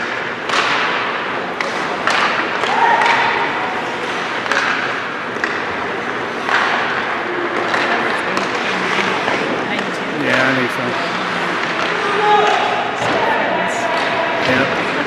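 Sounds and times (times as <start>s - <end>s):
puck and sticks knocking boards: 0.0s - 9.2s, 11.1s - 15.0s.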